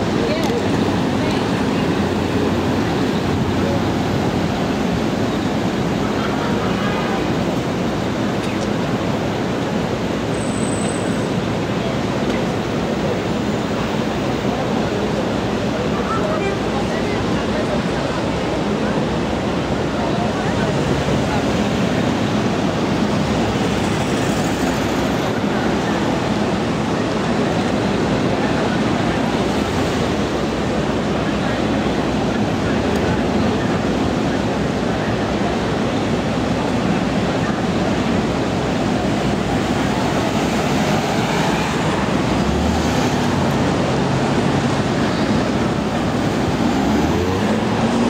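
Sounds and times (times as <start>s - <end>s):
city street traffic: 0.0s - 48.0s.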